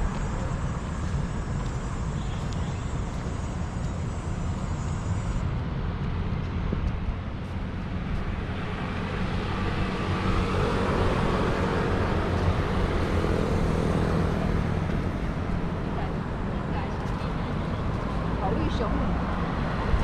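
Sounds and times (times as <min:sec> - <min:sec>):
low rumble of road traffic: 0:00.0 - 0:20.0
vehicle approaching: 0:00.0 - 0:20.0.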